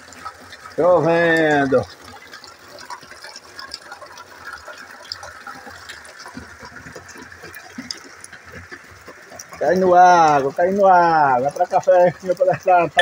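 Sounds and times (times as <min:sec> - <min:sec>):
small water drips: 0:00.0 - 0:13.0
water splashing into barrel: 0:00.0 - 0:13.0.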